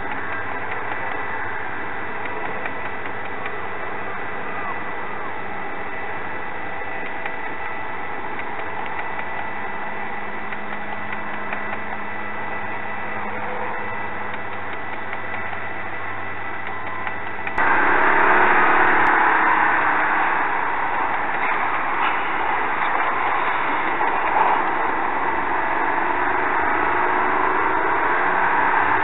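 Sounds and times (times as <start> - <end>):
log loader machinery: 0.0 - 29.0.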